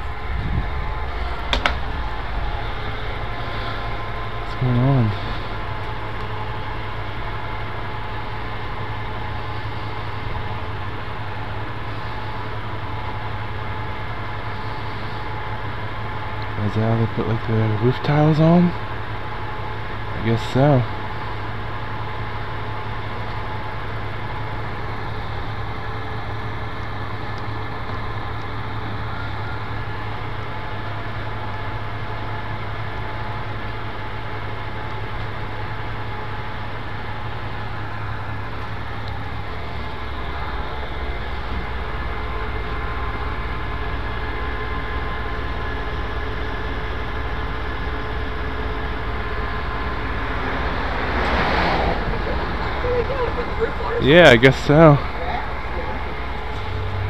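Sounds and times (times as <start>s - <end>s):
steady whining tones: 0.0s - 57.0s
vehicle engine humming: 0.0s - 57.0s.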